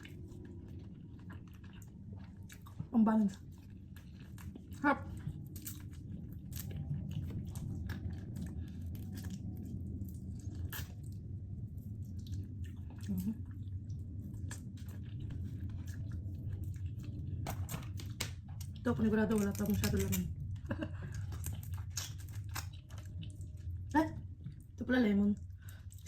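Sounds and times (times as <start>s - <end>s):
person chewing and crunching food: 0.0s - 24.8s, 25.4s - 26.0s
steady low hum: 0.0s - 26.0s.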